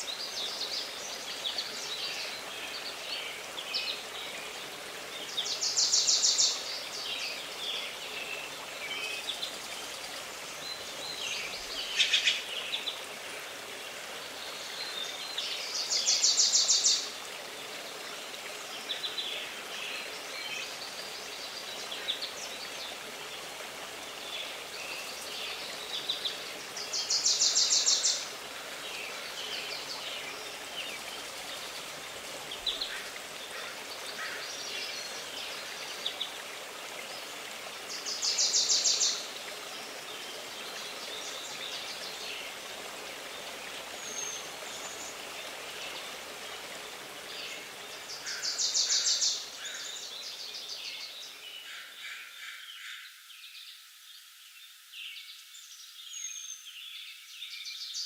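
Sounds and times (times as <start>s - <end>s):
forest birds singing: 0.0s - 36.4s, 37.0s - 58.0s.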